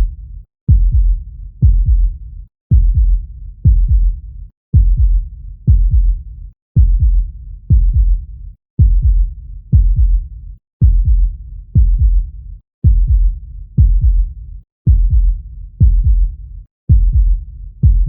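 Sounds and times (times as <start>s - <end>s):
heartbeat thumps: 0.7s - 6.2s, 6.8s - 8.2s, 8.8s - 18.0s.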